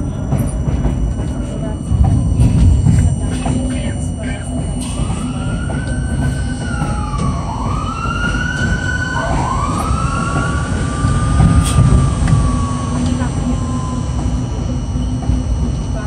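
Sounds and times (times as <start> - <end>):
subway train rumbling: 0.0 - 16.0
wailing tone: 0.0 - 16.0.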